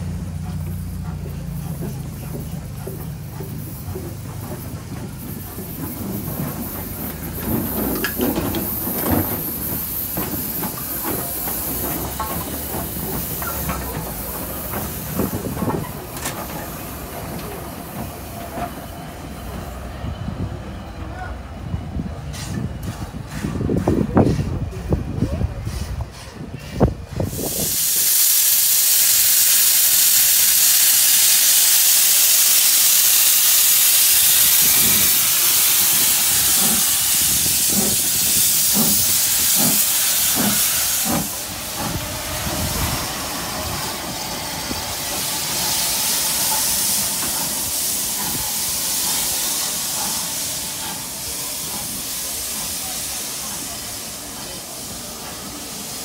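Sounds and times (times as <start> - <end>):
locomotive venting steam: 0.0 - 56.0.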